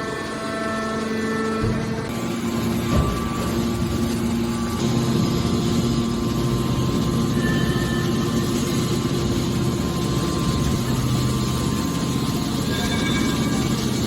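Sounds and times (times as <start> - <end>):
hydraulic baler humming: 0.0 - 14.0.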